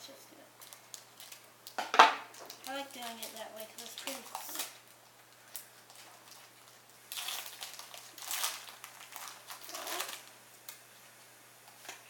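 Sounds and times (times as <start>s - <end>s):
foil wrapper crinkling: 0.6s - 11.0s.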